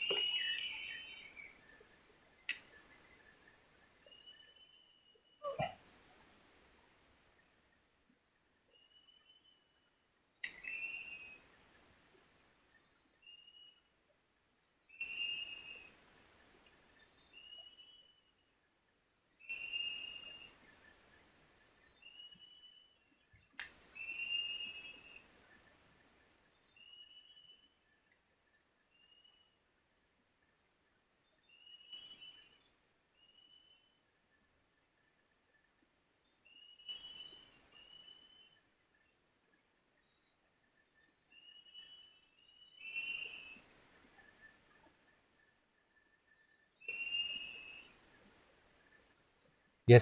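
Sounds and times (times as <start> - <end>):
insect chirp: 0.0 - 50.0.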